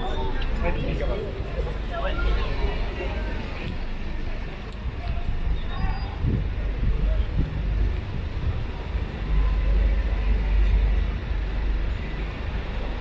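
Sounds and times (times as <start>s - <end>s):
faint voices of passers-by: 0.0s - 13.0s
traffic rumble: 0.0s - 13.0s.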